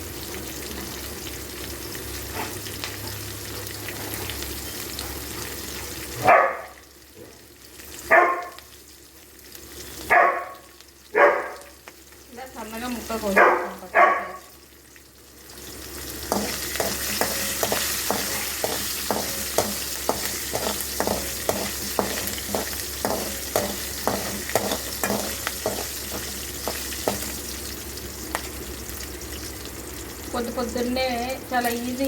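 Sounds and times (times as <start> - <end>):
spices sizzling in hot oil: 0.0 - 32.0.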